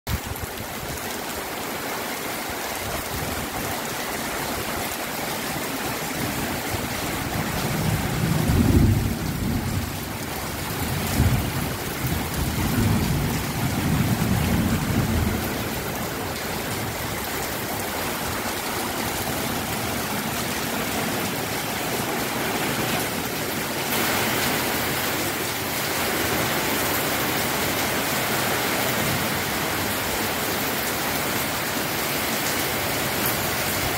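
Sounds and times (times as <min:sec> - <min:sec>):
steady rain hiss: 0:00.2 - 0:33.9.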